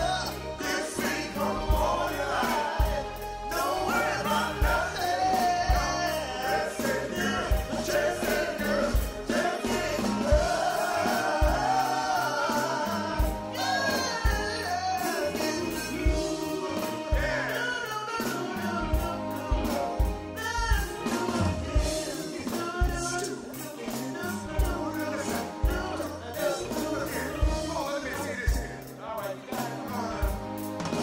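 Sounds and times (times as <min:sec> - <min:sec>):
singers performing soul music: 0:00.0 - 0:31.0.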